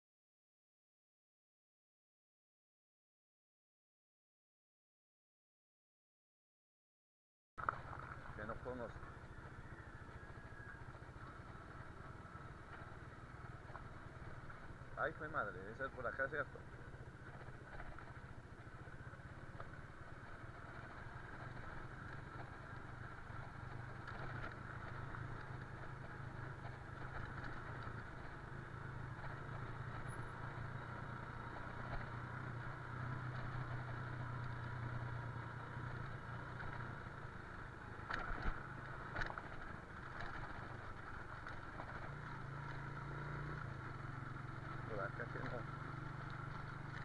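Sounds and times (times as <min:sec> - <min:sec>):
motorcycle engine running: 0:07.6 - 0:47.0.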